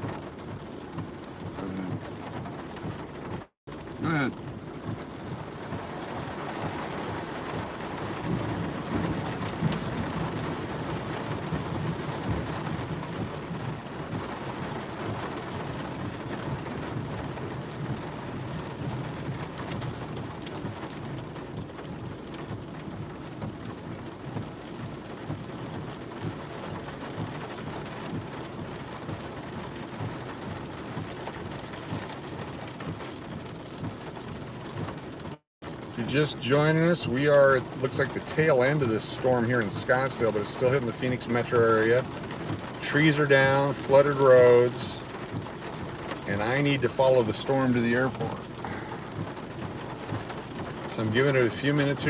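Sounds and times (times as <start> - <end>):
heavy rain drumming on car: 0.0 - 52.0.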